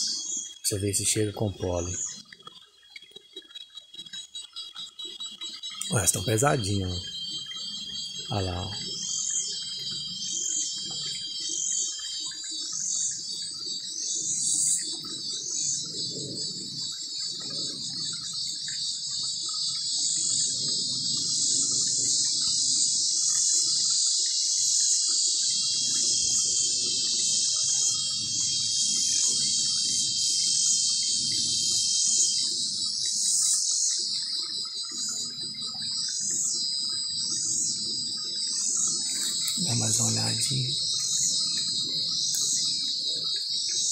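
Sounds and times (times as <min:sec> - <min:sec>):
cicadas shrilling: 0:00.0 - 0:43.9.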